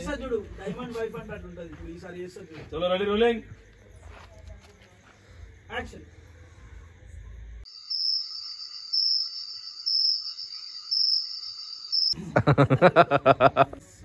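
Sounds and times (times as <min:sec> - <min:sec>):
crickets chirping: 0:00.0 - 0:13.4.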